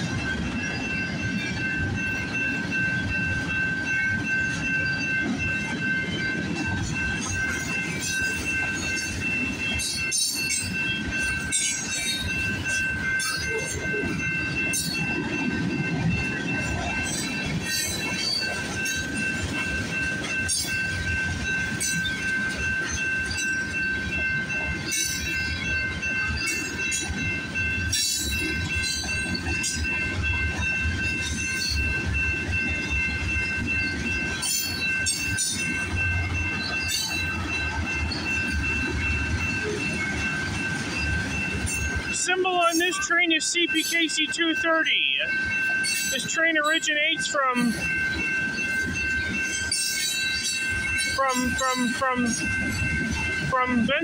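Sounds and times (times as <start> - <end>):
freight train rumble: 0.0 - 54.0
steady high-pitched tone: 0.0 - 54.0.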